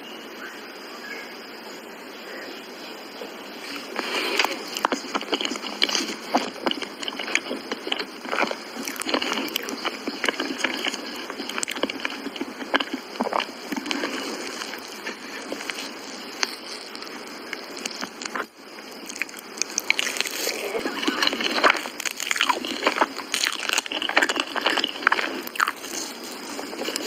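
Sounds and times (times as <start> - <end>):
wet chewing with small clicks: 3.7 - 27.0.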